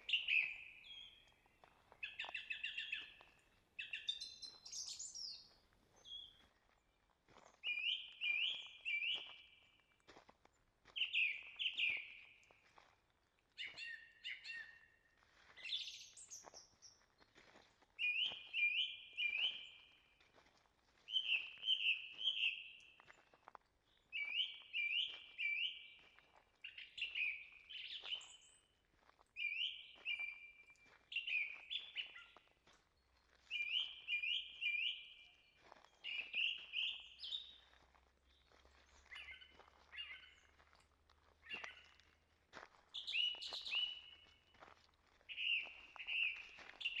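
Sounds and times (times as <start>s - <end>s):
songbird singing: 0.0s - 7.0s, 7.6s - 9.8s, 10.9s - 12.7s, 13.6s - 17.2s, 18.0s - 20.2s, 21.1s - 23.3s, 23.9s - 42.2s, 42.9s - 44.5s, 45.2s - 47.0s
faint footsteps on trail: 0.0s - 47.0s.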